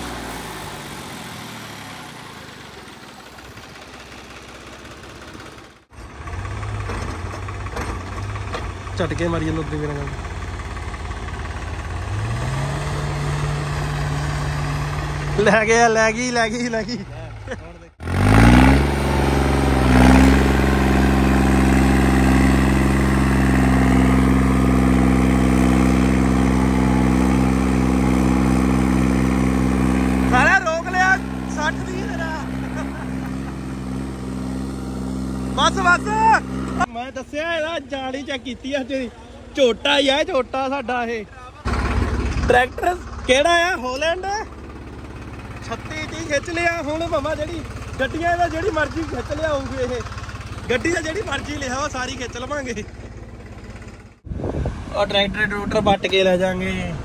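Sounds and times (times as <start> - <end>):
engine idling low drone: 0.0 - 18.2, 19.0 - 57.0
vehicle engine running: 0.0 - 57.0.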